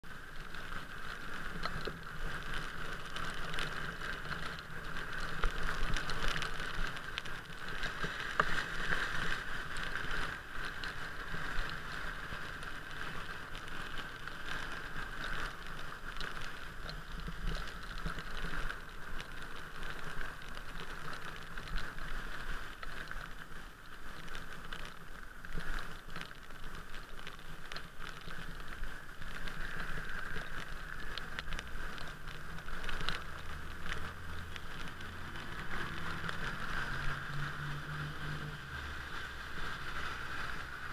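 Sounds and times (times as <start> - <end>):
rain hitting camera: 0.0 - 40.9
tyres hissing on wet asphalt: 0.1 - 40.9
small ticks: 0.4 - 40.9.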